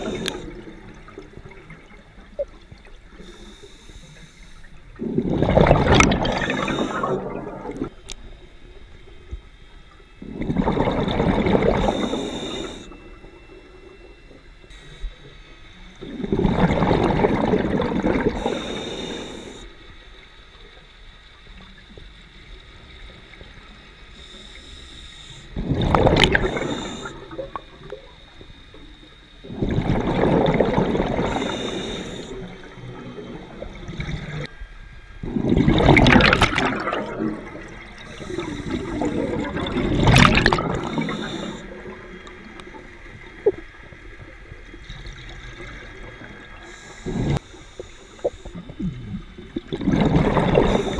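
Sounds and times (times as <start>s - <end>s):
underwater exhaust bubbles: 0.0s - 50.9s.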